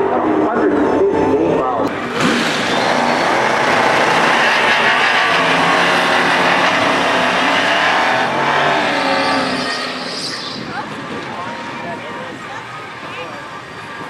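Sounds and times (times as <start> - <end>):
car engines revving hard: 0.0 - 14.0.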